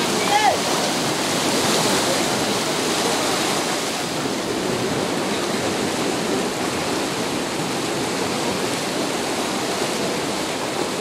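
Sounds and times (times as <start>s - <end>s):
water rushing through canal: 0.0s - 11.0s.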